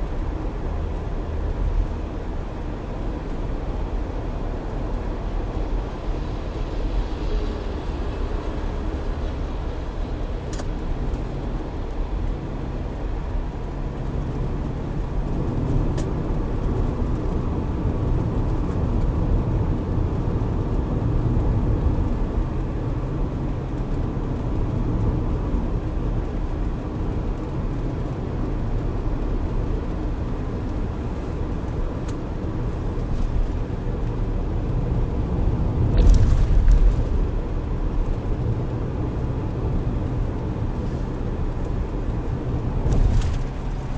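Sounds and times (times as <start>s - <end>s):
car driving at speed: 0.0s - 43.9s.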